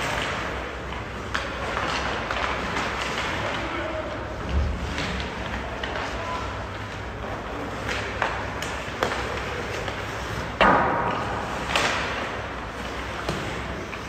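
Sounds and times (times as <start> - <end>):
hockey sticks and puck clacking: 0.0 - 14.0.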